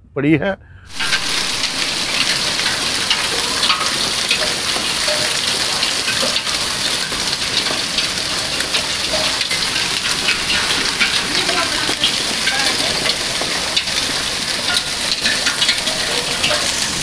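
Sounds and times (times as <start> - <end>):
steady rain falling: 0.9 - 17.0.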